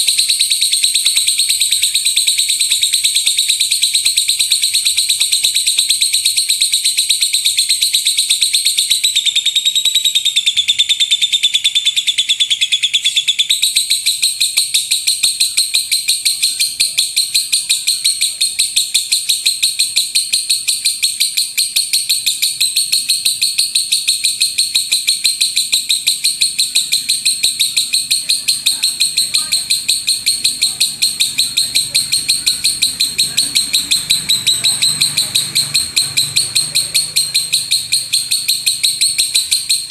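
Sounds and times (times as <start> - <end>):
lovebird fast high chirps: 0.0 - 39.9.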